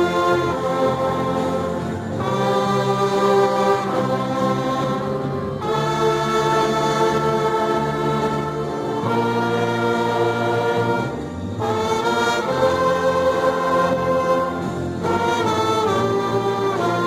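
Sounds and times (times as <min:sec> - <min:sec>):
brass orchestra playing a hymn: 0:00.0 - 0:17.0.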